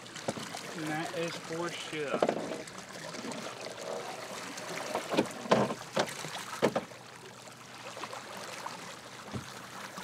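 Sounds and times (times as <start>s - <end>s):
water sloshing against hull: 0.0s - 10.0s.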